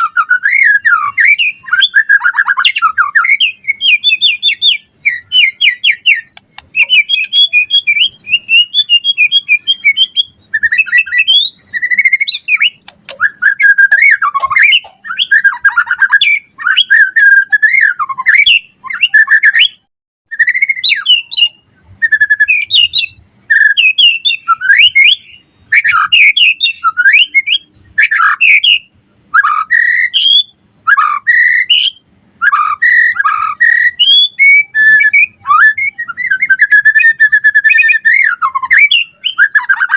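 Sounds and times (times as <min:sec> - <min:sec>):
songbird whistling: 0:00.0 - 0:39.9.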